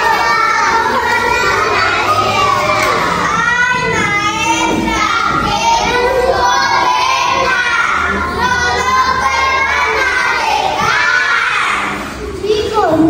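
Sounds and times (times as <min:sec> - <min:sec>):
young children's voices: 0:00.0 - 0:13.0.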